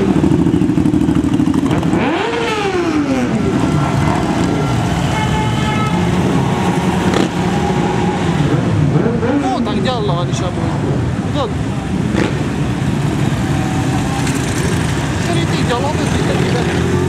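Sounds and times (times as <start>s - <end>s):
motorcycles riding past: 0.0s - 9.9s, 11.7s - 17.0s.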